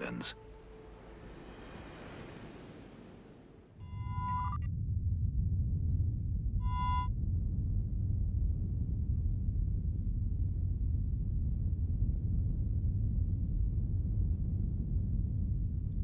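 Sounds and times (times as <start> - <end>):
low rumbling drone: 0.0 - 16.0.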